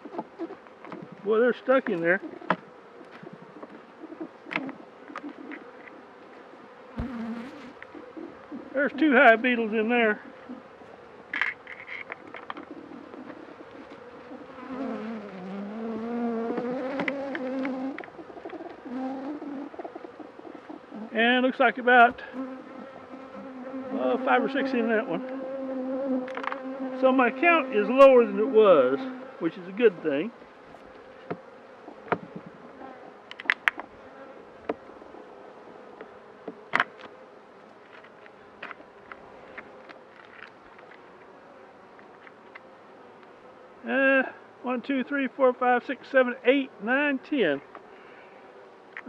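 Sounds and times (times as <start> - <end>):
bee buzzing: 2.2 - 44.6, 46.3 - 49.0.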